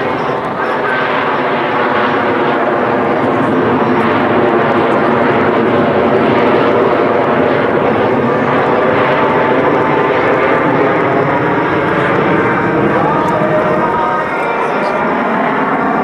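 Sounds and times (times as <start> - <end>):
jet roar: 0.0 - 16.0.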